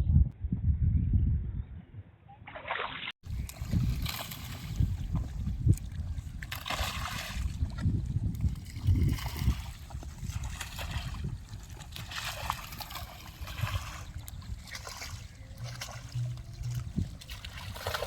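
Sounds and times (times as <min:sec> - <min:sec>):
water splashing and sloshing: 0:02.5 - 0:18.0.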